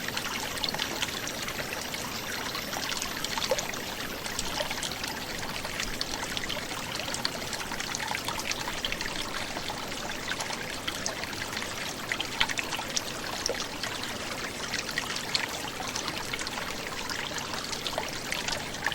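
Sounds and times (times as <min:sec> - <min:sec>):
brook trickling over stones: 0:00.0 - 0:18.9.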